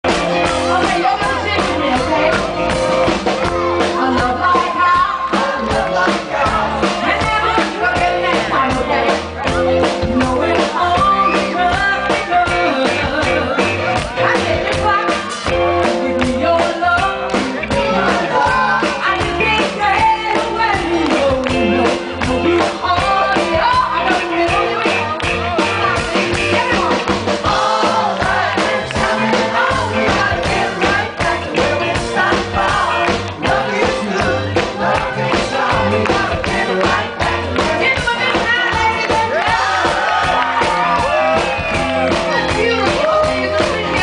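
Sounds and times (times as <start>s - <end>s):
electric guitar: 0.0s - 44.0s
steady drum beat: 0.0s - 44.0s
woman singing: 0.4s - 2.8s, 3.5s - 44.0s.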